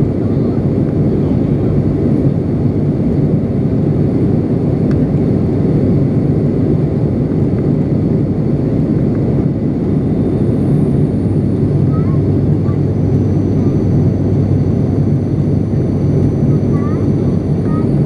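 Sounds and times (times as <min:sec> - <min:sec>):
turboprop engine drone in cabin: 0:00.0 - 0:18.0.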